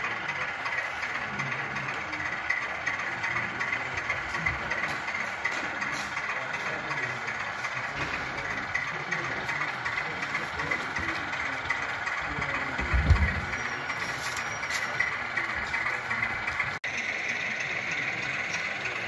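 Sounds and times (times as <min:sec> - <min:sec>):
diesel engine idling through speaker: 0:00.0 - 0:19.0.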